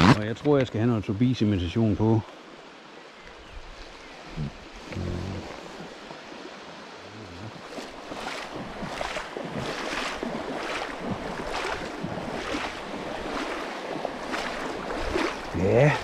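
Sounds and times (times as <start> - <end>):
legs wading through water: 2.3 - 16.0.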